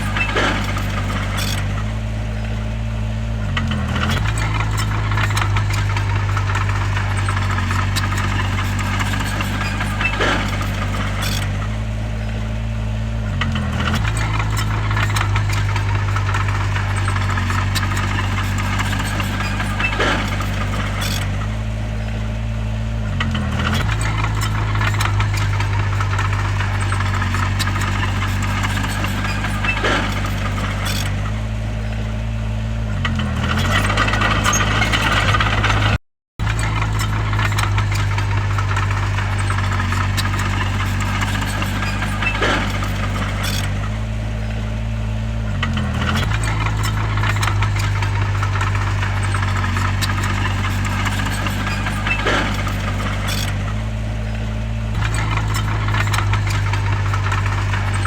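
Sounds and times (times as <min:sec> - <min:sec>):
knocks and rattles: 0:00.0 - 0:02.6, 0:03.6 - 0:12.3, 0:13.4 - 0:22.1, 0:23.1 - 0:32.4, 0:33.0 - 0:44.9, 0:45.5 - 0:58.0
bulldozer diesel engine under load: 0:00.0 - 0:58.0.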